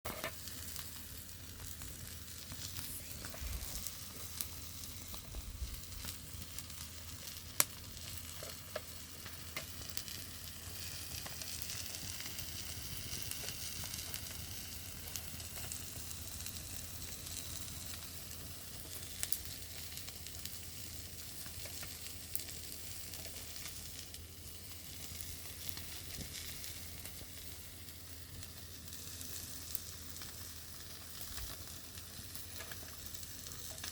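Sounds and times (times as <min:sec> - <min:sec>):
fish sizzling in hot fat: 0:00.1 - 0:33.9.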